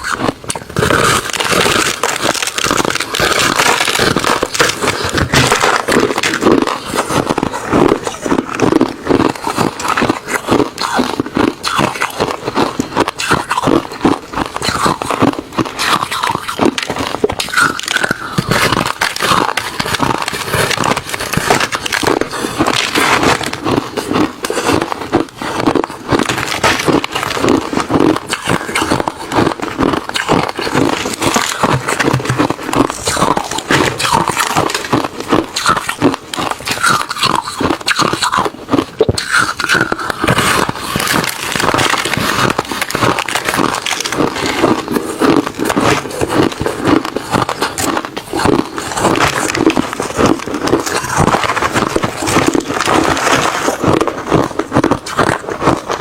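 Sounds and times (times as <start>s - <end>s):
person chewing ice: 0.0s - 56.0s.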